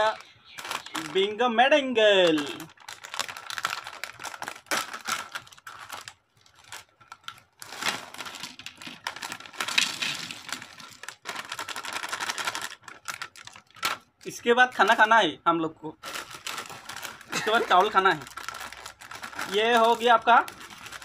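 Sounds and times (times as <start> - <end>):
plastic snack bag crinkling: 0.0 - 15.2, 16.0 - 21.0.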